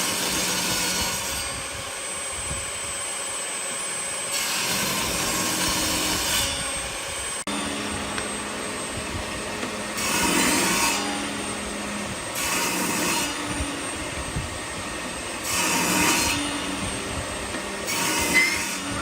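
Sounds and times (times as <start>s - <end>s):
power tool cutting wood: 0.0s - 19.0s.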